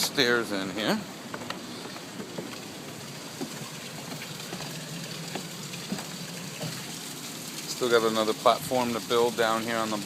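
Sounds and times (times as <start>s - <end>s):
running water rushing: 0.0s - 10.0s
faint ticks and drips: 1.3s - 10.0s.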